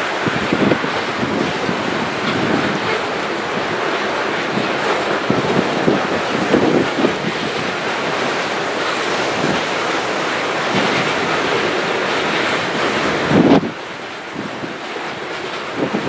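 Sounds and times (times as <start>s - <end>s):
freight train rolling past: 0.0s - 16.0s
wheels clattering on rails: 0.0s - 16.0s.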